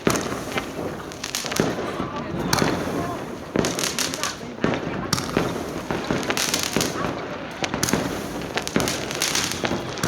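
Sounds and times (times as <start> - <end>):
firework bangs: 0.0 - 10.0
firework crackle: 0.0 - 10.0.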